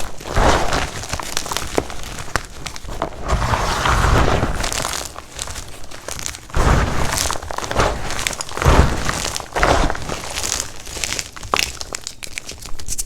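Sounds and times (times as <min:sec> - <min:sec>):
chalk blocks crunching: 0:00.0 - 0:13.0.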